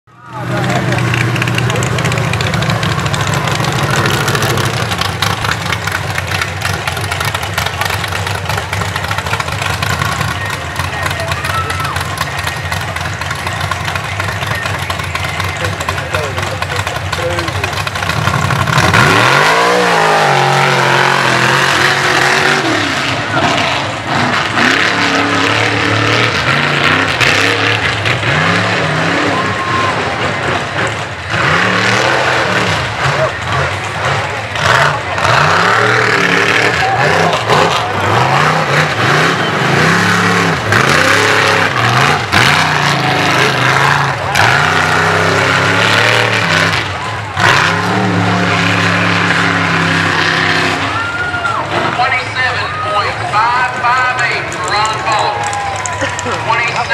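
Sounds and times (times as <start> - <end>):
buggy engine idling: 0.1 - 56.9.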